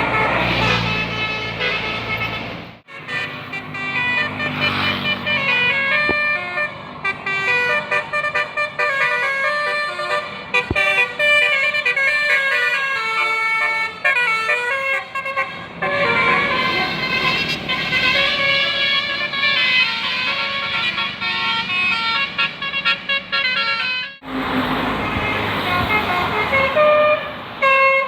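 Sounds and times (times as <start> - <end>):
multi-tone bus horn melody: 0.0 - 28.0.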